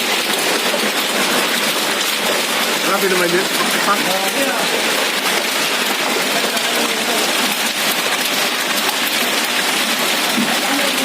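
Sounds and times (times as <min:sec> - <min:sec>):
hail and rain falling hard: 0:00.0 - 0:11.0.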